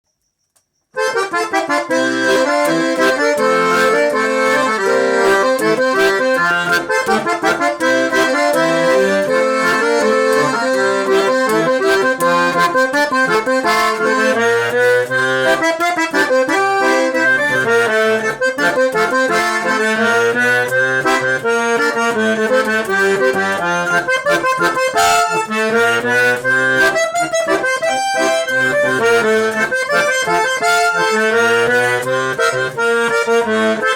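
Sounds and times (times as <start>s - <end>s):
accordion playing lively tune: 1.0s - 33.9s.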